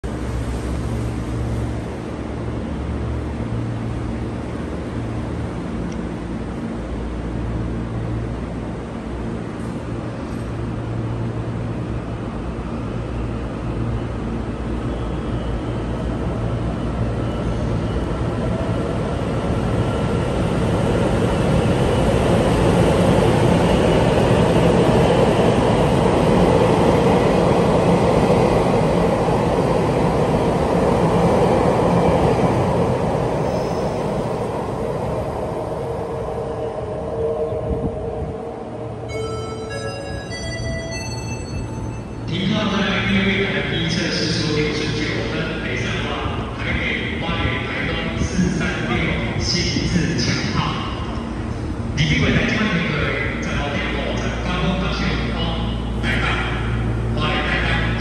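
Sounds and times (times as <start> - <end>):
electric train rumbling past: 0.0 - 58.0.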